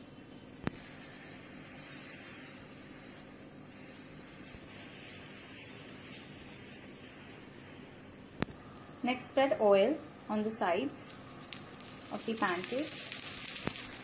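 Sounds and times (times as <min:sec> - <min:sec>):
batter sizzling on a griddle: 0:00.0 - 0:08.7, 0:11.1 - 0:14.0.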